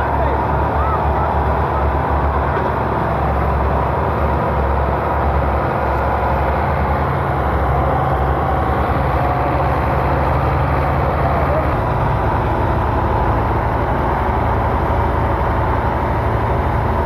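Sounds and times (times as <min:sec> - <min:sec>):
tractor diesel engine rumbling: 0:00.0 - 0:17.0.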